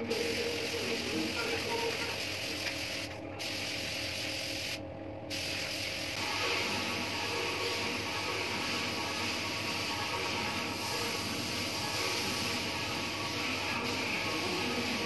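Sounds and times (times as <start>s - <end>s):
paint spray gun hissing: 0.1s - 15.0s.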